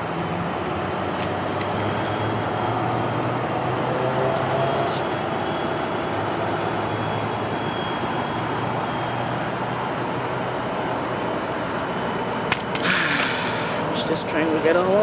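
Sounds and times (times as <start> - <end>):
diesel locomotives idling: 0.0 - 15.0.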